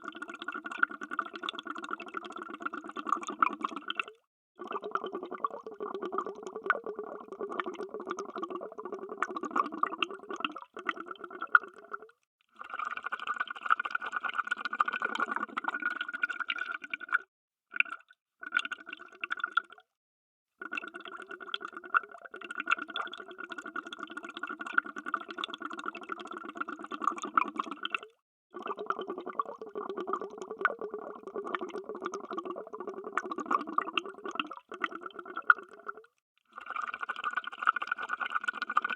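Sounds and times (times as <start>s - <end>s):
underwater bubbling: 0.0s - 12.1s, 14.4s - 17.2s, 20.7s - 37.6s.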